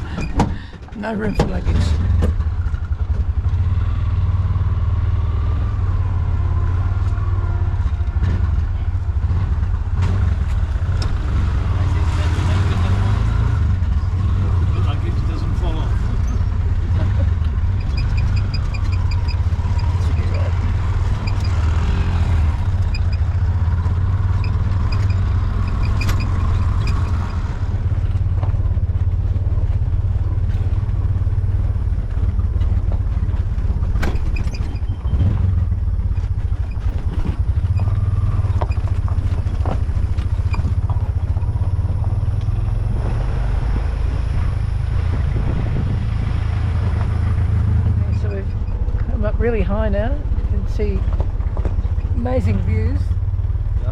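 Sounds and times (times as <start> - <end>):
vehicle clatters and knocks: 0.0 - 4.0, 6.5 - 53.9
auto-rickshaw engine rumbling: 0.0 - 53.9.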